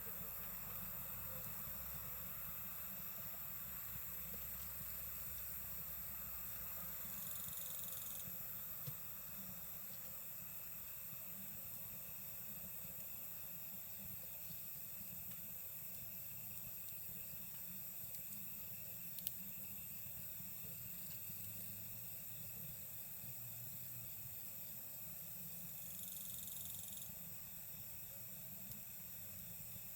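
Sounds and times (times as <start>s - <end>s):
fire crackles: 0.0s - 7.5s, 8.2s - 25.9s, 27.0s - 29.9s
campfire hiss and rumble: 0.0s - 29.9s
insects chirring: 0.0s - 29.9s.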